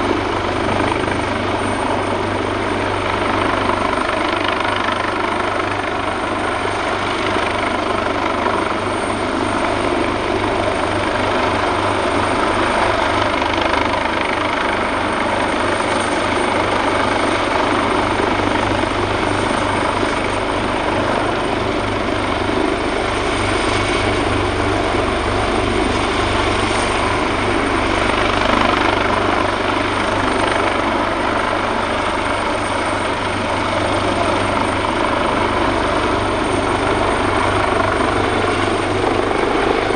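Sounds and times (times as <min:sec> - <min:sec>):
helicopter engine whine: 0:00.0 - 0:39.9
helicopter rotor beat: 0:00.0 - 0:39.9.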